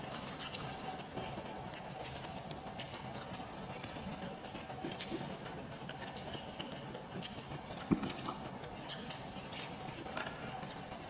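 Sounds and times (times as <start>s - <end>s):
chewing with wet mouth clicks: 0.2s - 11.0s.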